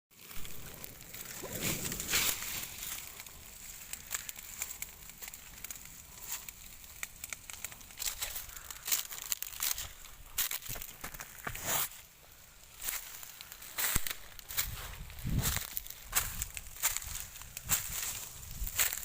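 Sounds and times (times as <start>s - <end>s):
burning vegetation crackling: 0.1s - 19.0s.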